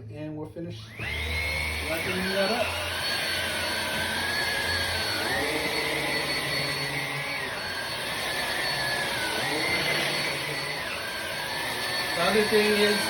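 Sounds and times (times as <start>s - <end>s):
stick vacuum running: 0.8s - 13.0s.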